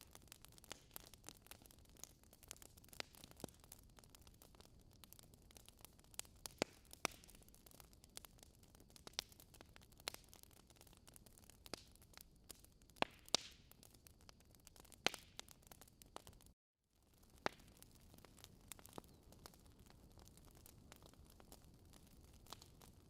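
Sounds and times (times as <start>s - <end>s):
log fire crackling: 0.0s - 23.0s.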